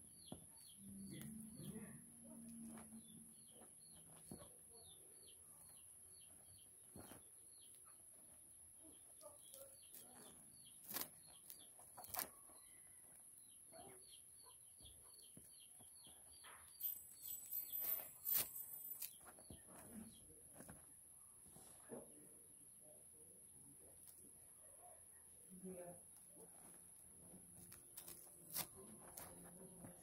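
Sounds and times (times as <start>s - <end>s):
bird chirping faintly: 0.0s - 30.0s.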